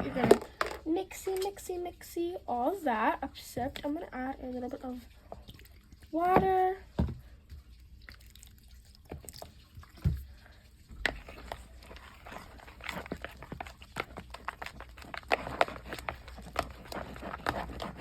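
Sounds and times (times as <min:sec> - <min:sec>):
slime squelching while stirred: 0:03.4 - 0:18.0.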